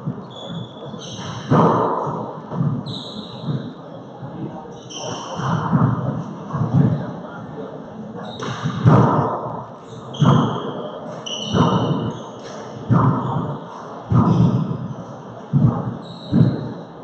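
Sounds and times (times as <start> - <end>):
sneakers squeaking on wooden floor: 0.0 - 7.1, 8.2 - 17.0.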